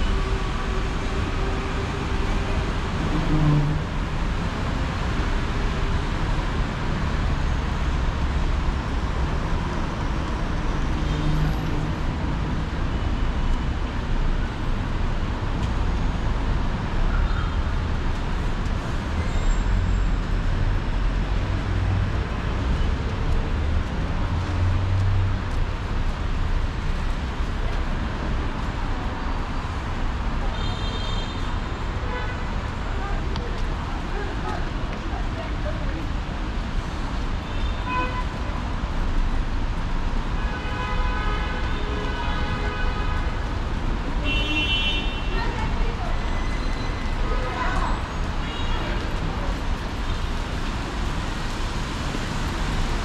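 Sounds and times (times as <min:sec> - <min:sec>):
city street traffic: 0:00.0 - 0:53.0.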